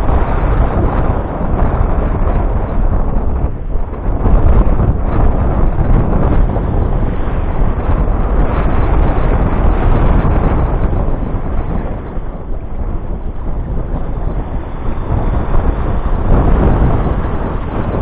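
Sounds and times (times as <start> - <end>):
rush of sea around boat: 0.0 - 18.0
wind buffeting microphone: 0.0 - 18.0.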